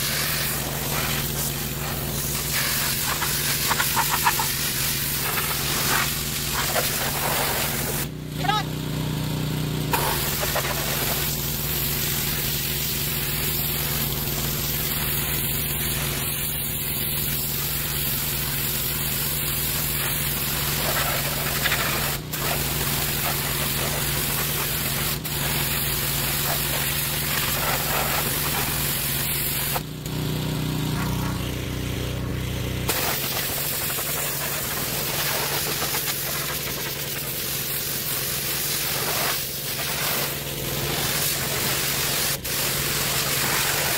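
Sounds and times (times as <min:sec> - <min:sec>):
water jet hissing on metal: 0:00.0 - 0:08.1, 0:09.9 - 0:29.8, 0:32.9 - 0:43.9
pressure washer engine running: 0:00.0 - 0:43.9.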